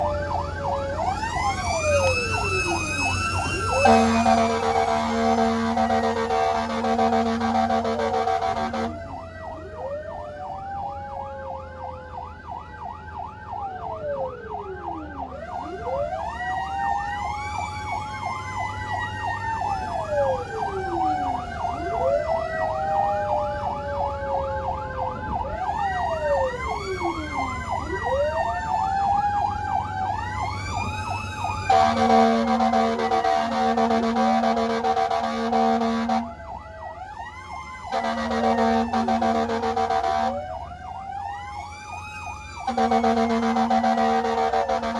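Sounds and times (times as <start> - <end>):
engine and road rumble: 0.0 - 44.9
siren wail: 0.0 - 44.9
siren yelp: 0.0 - 44.9.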